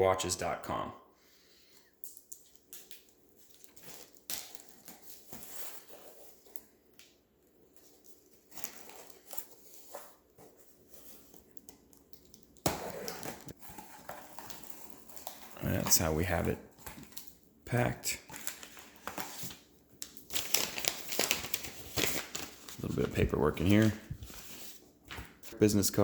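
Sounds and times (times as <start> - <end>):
packing material rustling: 2.2 - 17.4, 18.1 - 25.6.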